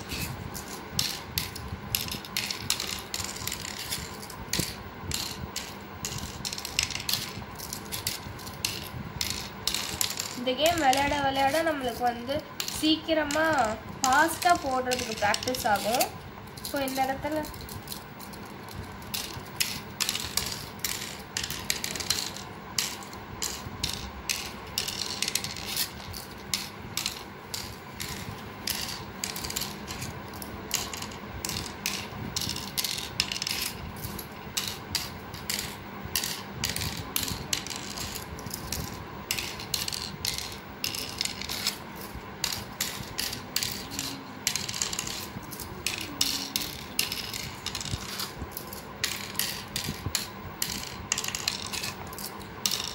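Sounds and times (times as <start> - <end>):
shells clicking into board cups: 0.0 - 52.9.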